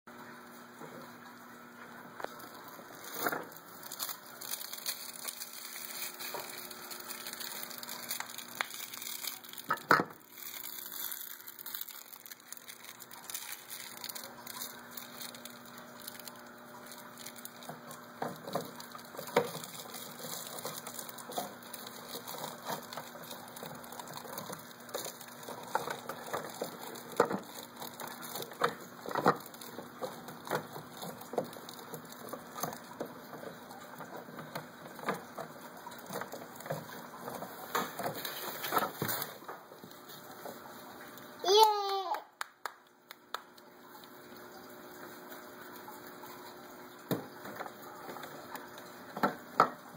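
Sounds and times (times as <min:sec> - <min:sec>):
faint steady hum: 0:00.1 - 0:49.9.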